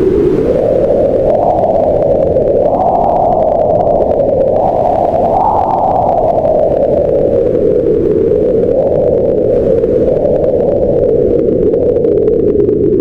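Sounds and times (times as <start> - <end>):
wind whistling in gusts: 0.0 - 13.0.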